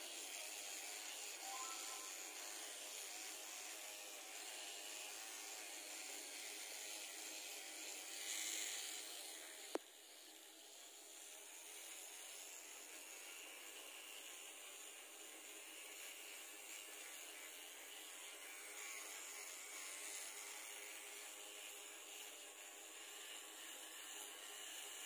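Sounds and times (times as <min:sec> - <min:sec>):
small electric trimmer humming: 0:00.0 - 0:25.0.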